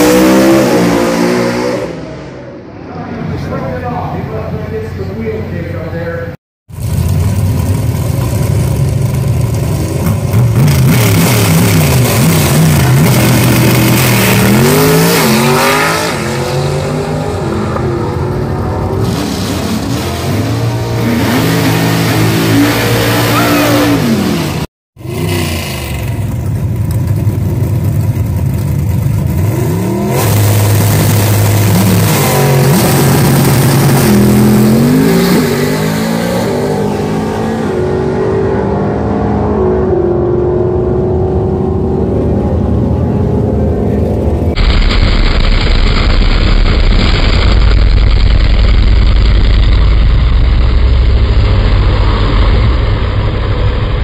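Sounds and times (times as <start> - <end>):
race car engines at full throttle: 0.0 - 44.6, 45.4 - 54.0.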